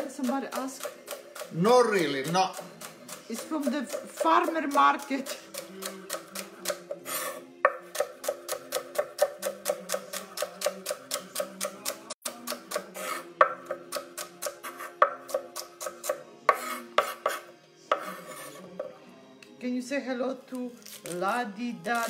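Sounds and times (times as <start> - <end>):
soft background music: 0.0 - 22.0
knife chopping on wooden board: 0.2 - 1.6, 2.5 - 18.9.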